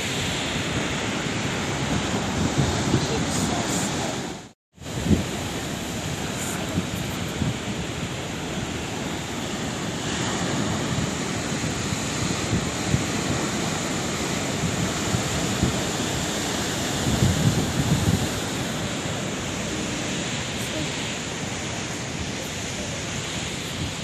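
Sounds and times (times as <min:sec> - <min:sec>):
sea waves breaking: 0:00.0 - 0:24.0
wind buffeting microphone: 0:00.0 - 0:24.0.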